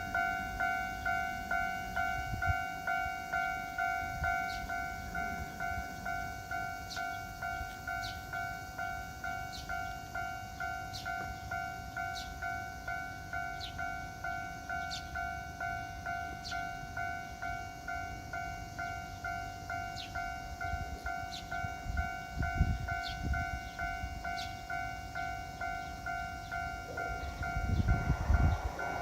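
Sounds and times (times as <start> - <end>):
electronic crossing bell ringing: 0.0 - 29.0
train low rumble: 0.0 - 29.0.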